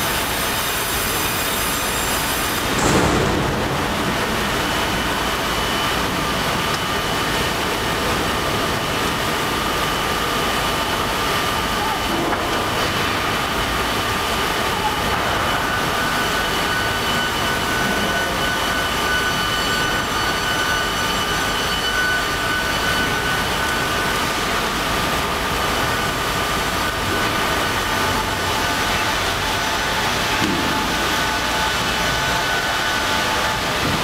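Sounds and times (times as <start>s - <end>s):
high machine whines: 0.0s - 34.0s
industrial machine noise: 0.0s - 34.0s.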